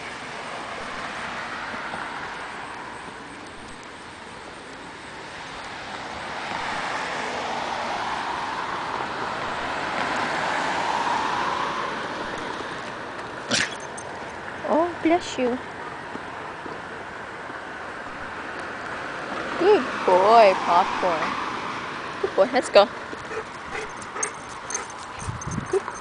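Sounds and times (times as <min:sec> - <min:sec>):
car passing on street: 0:00.0 - 0:26.0.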